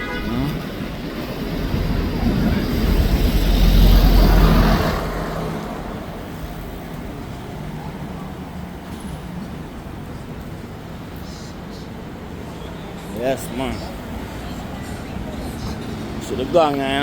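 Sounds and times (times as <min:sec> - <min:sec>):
vehicle engine rumble passing: 0:00.0 - 0:17.0.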